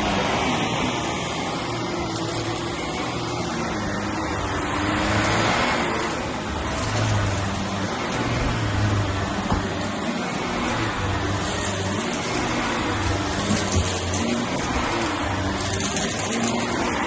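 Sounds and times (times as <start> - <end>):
vacuum cleaner on carpet: 0.0 - 17.0.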